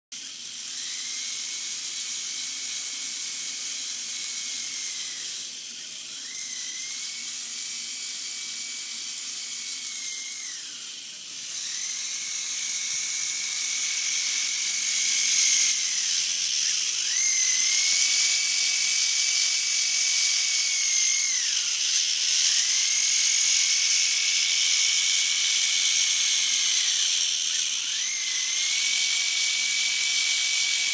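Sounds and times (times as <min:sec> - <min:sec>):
servo motors whirring: 0:00.2 - 0:30.9.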